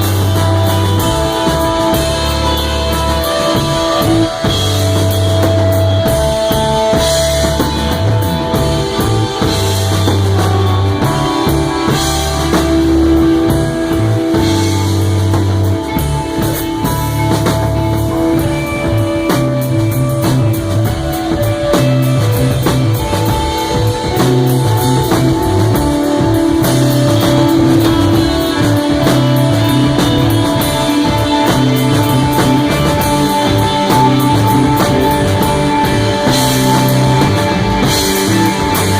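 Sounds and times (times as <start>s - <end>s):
bass guitar: 0.0s - 38.9s
drum kit with cymbals: 0.0s - 38.9s
electric guitar: 0.0s - 38.9s.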